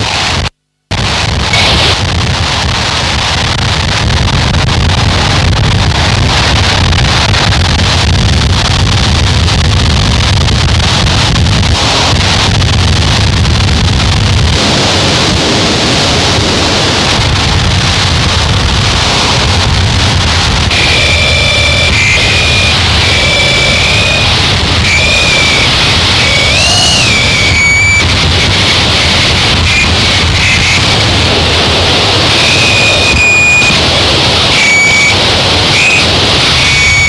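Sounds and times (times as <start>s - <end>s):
distorted noise music: 0.0s - 37.0s
heavy low rumble: 0.0s - 37.0s.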